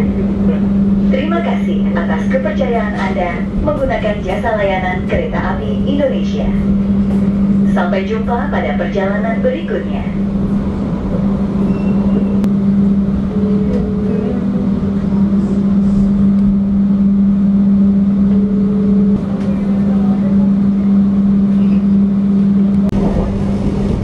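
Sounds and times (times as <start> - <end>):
train carriage running hum: 0.0 - 24.0.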